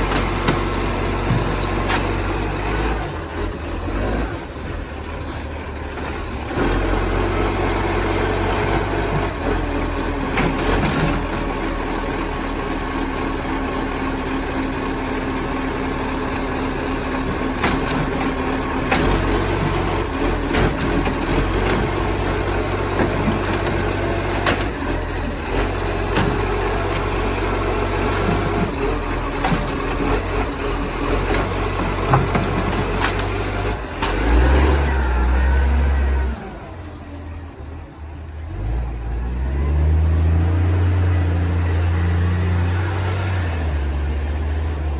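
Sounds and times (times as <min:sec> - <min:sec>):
truck diesel engine idling: 0:00.0 - 0:44.9.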